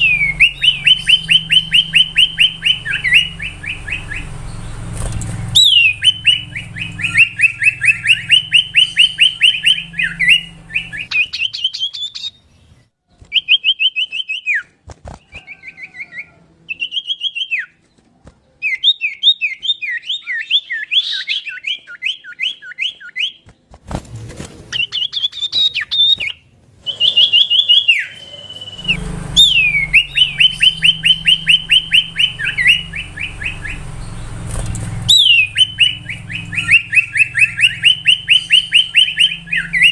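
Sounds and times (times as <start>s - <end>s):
bird singing whistled notes: 0.0s - 12.6s, 15.4s - 17.8s, 18.6s - 23.4s, 24.8s - 39.9s.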